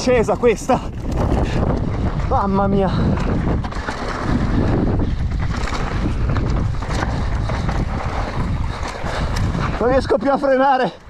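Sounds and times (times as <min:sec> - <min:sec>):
bike knocks and rattles: 0:00.0 - 0:10.7
tyre noise on dirt trail: 0:00.0 - 0:11.0
wind buffeting microphone: 0:00.0 - 0:11.0.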